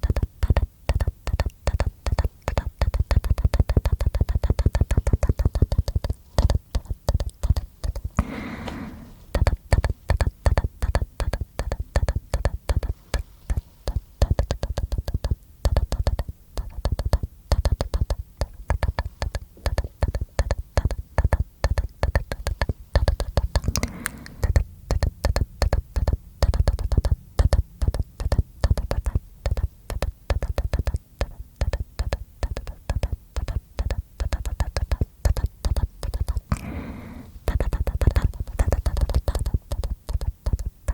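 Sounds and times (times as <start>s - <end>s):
wet mouth clicks and smacks: 0.0s - 8.4s, 9.3s - 40.9s.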